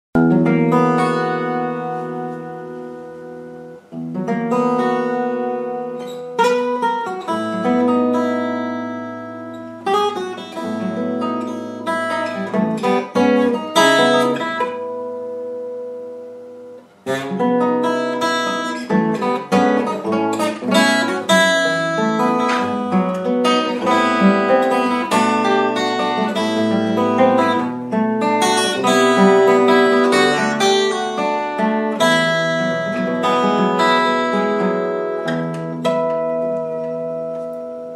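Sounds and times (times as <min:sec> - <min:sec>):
acoustic guitar playing: 0:00.2 - 0:37.9.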